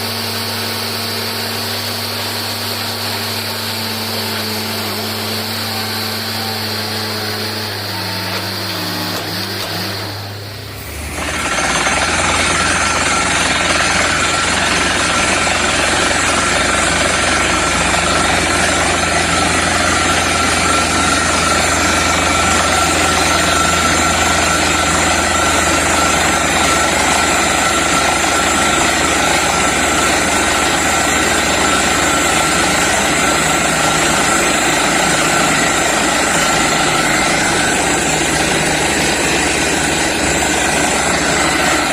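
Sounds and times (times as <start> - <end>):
air compressor running: 0.0 - 41.9
drilling rig running: 0.0 - 41.9.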